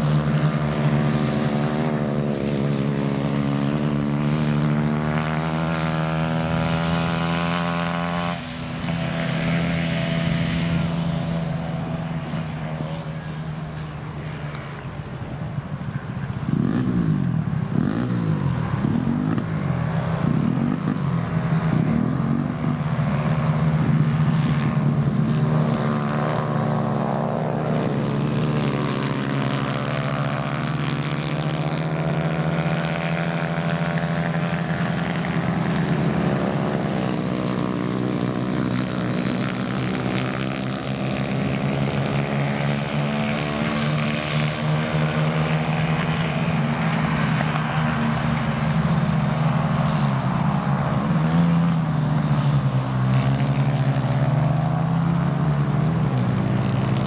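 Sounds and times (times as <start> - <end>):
kart engines droning: 0.0 - 57.0.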